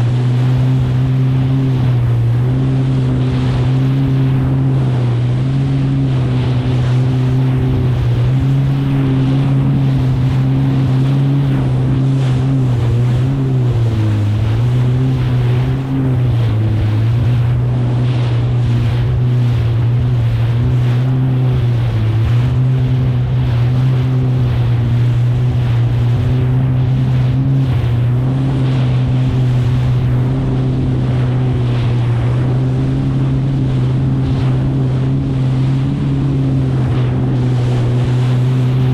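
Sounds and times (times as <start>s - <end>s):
jet ski engine running: 0.0s - 38.9s
rush of water and wind: 0.0s - 38.9s.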